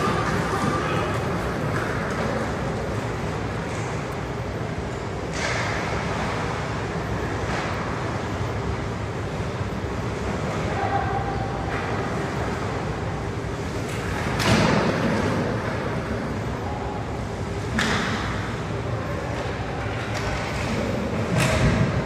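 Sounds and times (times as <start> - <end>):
noisy rink hum: 0.0 - 22.0.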